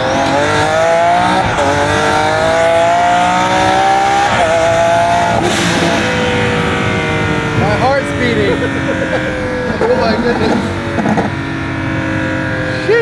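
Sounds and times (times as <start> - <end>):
sports car accelerating hard: 0.0 - 13.0.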